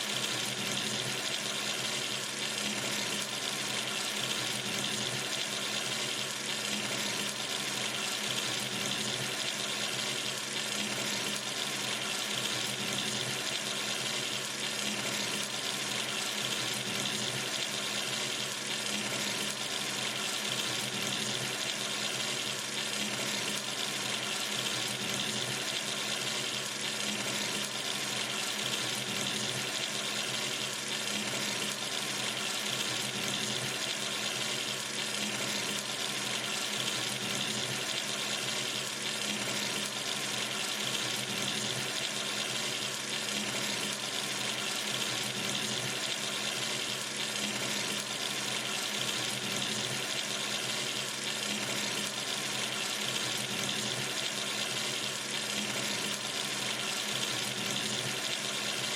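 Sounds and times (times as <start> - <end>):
water running from sink tap: 0.0 - 58.9.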